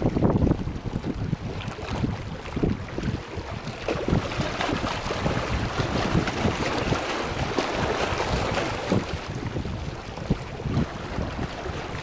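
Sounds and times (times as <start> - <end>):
waves lapping rocky shore: 0.0 - 12.0
wind buffeting microphone: 0.0 - 12.0.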